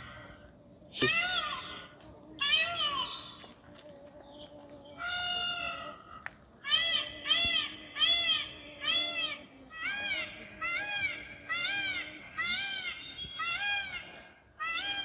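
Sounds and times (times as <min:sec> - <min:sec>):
peafowl calls: 0:02.4 - 0:15.0.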